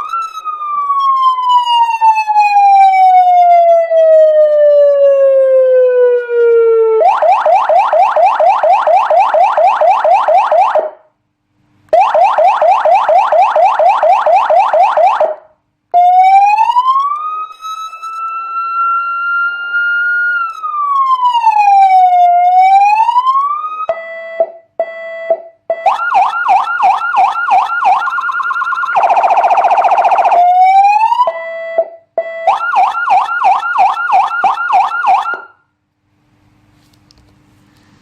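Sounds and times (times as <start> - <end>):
electronic siren cycling tones: 0.0 - 10.9, 11.9 - 15.4, 16.0 - 35.6.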